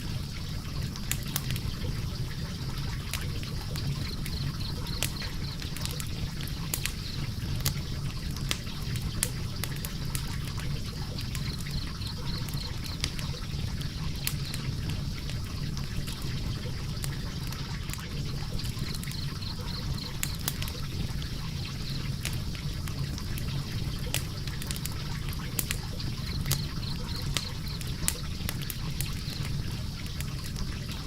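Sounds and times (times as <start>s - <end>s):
fire flames rushing: 0.0s - 31.0s
wood crackling and popping: 0.0s - 31.0s.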